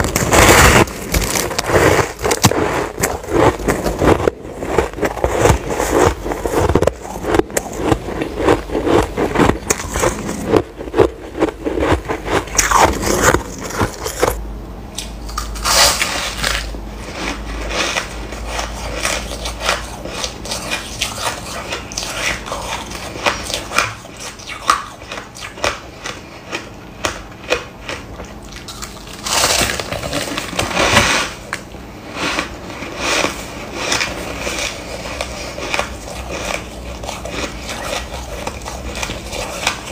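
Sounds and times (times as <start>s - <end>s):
ice being chewed crunching: 0.0s - 14.4s, 15.0s - 39.9s.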